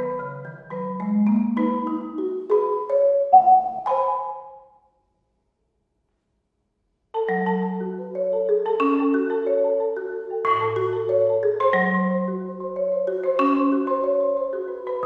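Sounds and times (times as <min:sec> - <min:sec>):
marimba playing: 0:00.0 - 0:04.8, 0:07.2 - 0:15.0.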